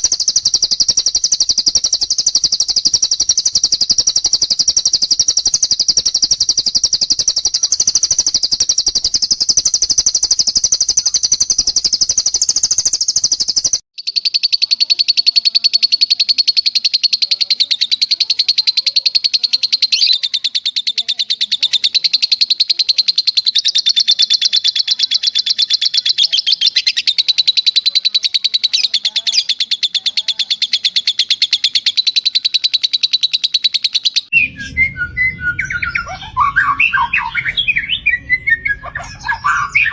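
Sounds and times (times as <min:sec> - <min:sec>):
bird trilling: 0:00.0 - 0:39.9.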